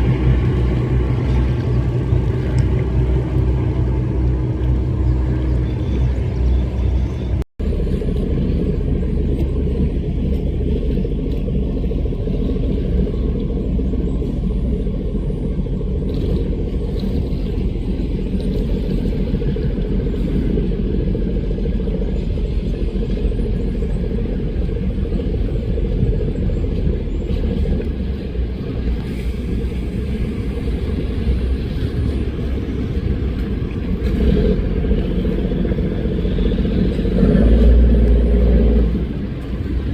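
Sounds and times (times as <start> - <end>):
speedboat engines rumbling: 0.0 - 39.9.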